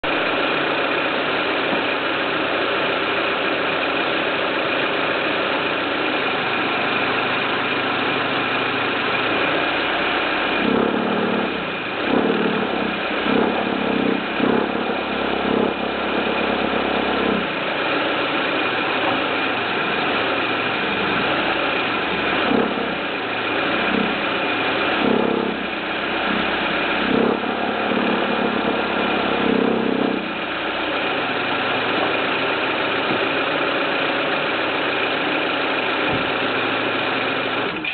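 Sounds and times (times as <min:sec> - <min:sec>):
abnormal engine noise bursts: 0:00.0 - 0:37.9
car engine running: 0:00.0 - 0:37.9.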